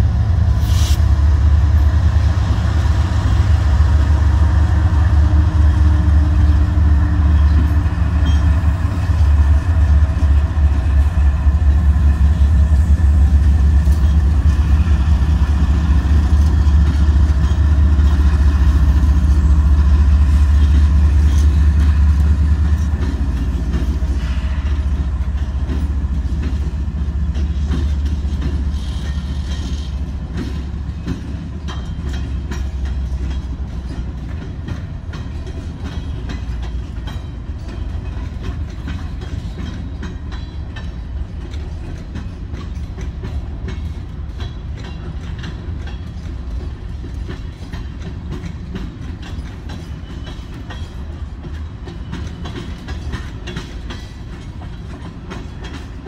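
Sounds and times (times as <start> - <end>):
diesel locomotive rumble: 0.0 - 56.0
train wheels clattering on rails: 0.0 - 56.0.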